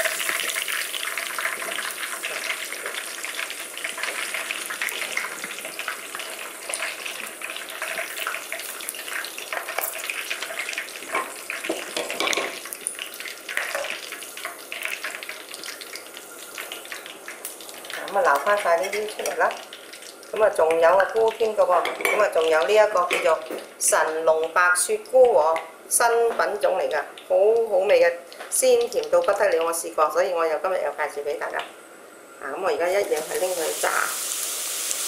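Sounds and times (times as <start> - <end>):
mushrooms sizzling in hot oil: 0.0 - 31.6, 32.5 - 35.0.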